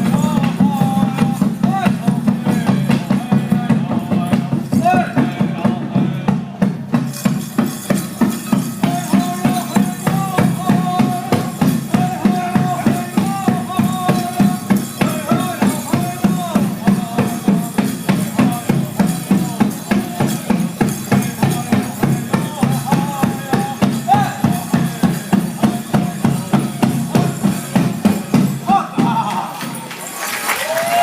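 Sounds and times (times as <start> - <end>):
voices singing: 0.0 - 29.9
drum beating steadily: 0.0 - 30.0.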